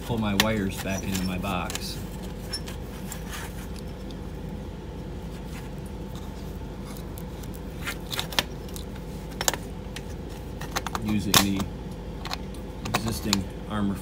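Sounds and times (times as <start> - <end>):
wires rustling and ticking: 0.0 - 11.6
low machine hum: 0.0 - 14.0.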